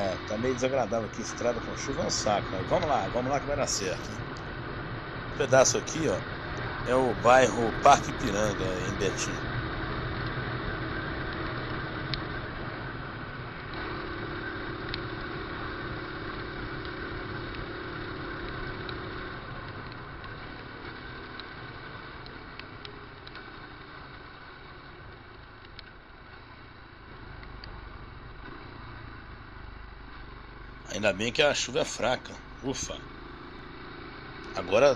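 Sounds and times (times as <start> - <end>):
motorcycle engine running: 0.0 - 34.9
road and wind noise: 0.0 - 34.9.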